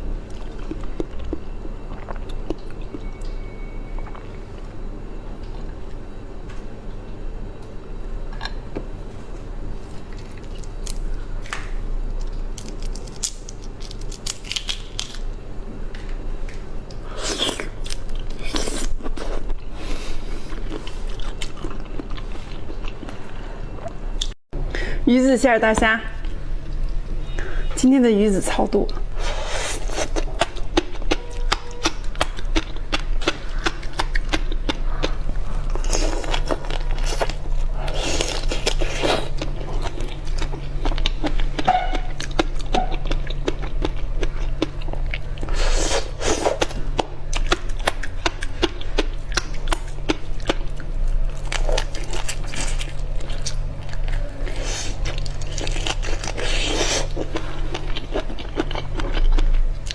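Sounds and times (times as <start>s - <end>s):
crunchy chewing of prawns: 0.0s - 6.2s, 9.5s - 15.4s, 17.0s - 24.4s, 28.9s - 59.9s
low hum: 0.0s - 59.9s.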